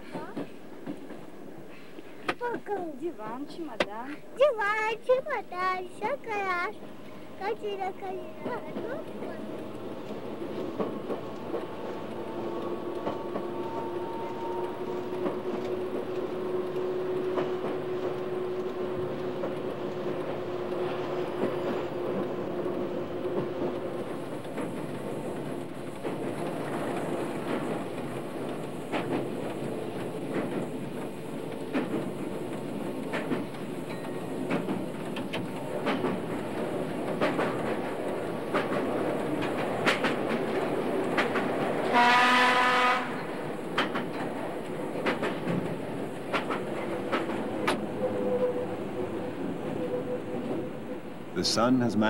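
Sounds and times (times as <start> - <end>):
train rolling rumble: 0.0 - 52.0
wheels clacking over rail joints: 7.4 - 51.3.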